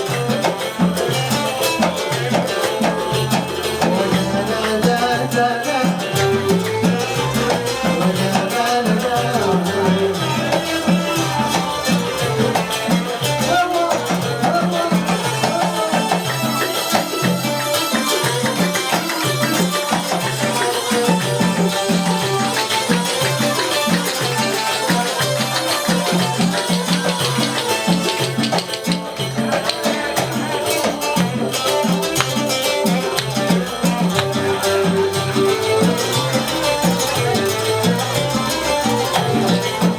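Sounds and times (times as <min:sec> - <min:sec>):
driving drum rhythm: 0:00.0 - 0:39.9
rattling shaker percussion: 0:00.0 - 0:39.9.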